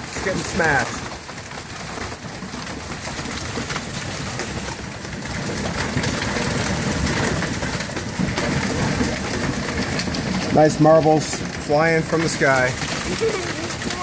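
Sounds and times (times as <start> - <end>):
hailstones rattling: 0.0 - 14.0.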